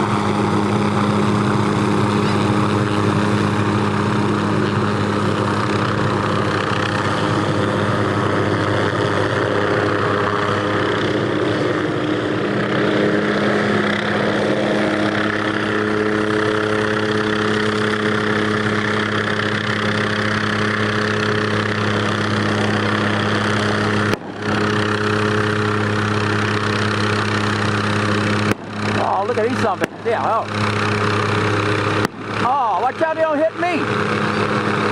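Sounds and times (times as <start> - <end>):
helicopter flying overhead: 0.0 - 34.9.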